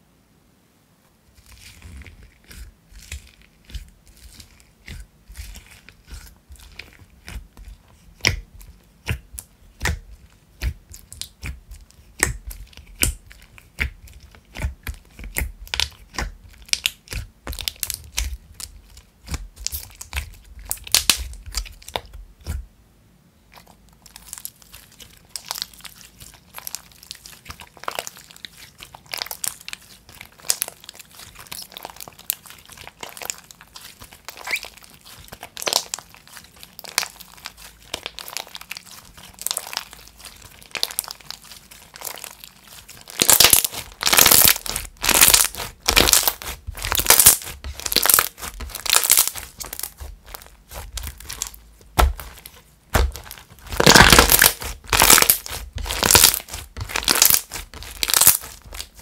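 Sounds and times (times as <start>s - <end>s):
slime crackling and crinkling: 1.3s - 22.7s, 23.5s - 59.0s.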